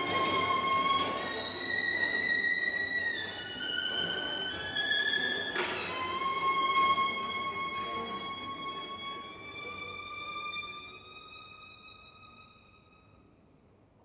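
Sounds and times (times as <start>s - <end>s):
solo violin long notes: 0.0s - 13.2s.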